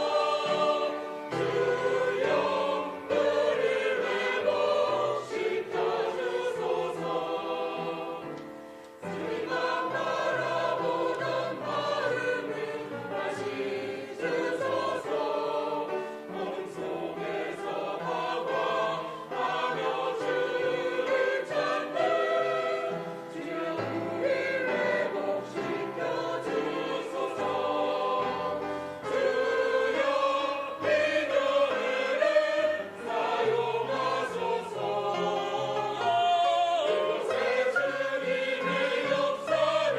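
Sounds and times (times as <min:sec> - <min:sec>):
group singing worship song: 0:00.0 - 0:39.9.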